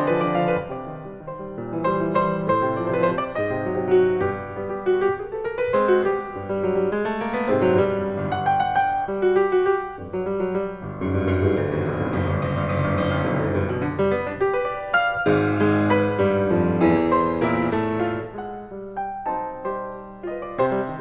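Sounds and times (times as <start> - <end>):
grand piano playing classical music: 0.0 - 21.0.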